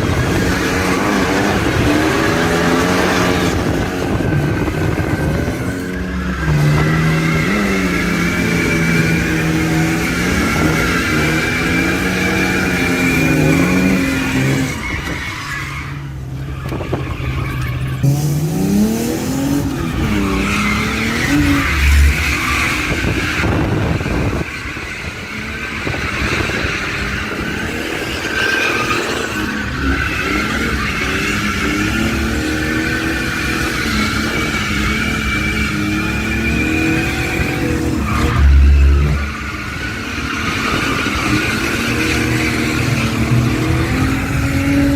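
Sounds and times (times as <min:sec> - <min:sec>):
tyres squealing: 0:00.0 - 0:18.6, 0:19.3 - 0:44.9
car engine revving: 0:00.0 - 0:44.9.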